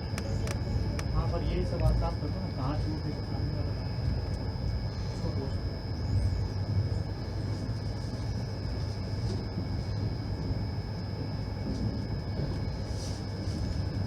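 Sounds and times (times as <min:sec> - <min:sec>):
high whine: 0:00.0 - 0:14.0
train coach rumbling on track: 0:00.0 - 0:14.0.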